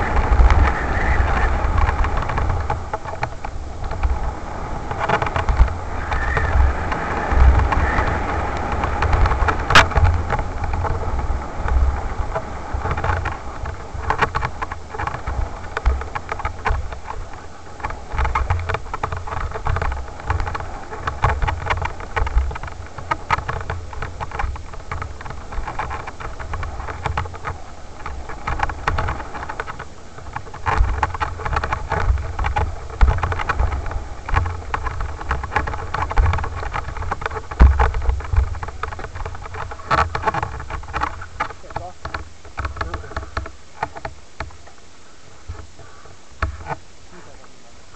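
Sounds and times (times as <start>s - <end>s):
bike rattling and knocking: 0.0s - 44.8s, 45.4s - 46.8s
wind buffeting microphone: 0.0s - 47.0s.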